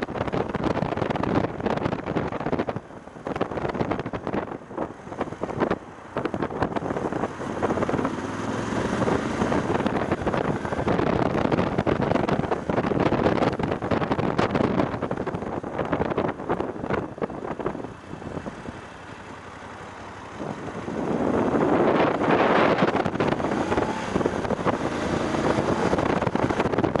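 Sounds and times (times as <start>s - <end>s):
motorcycle running: 0.0s - 27.0s
wind buffeting microphone: 0.0s - 27.0s.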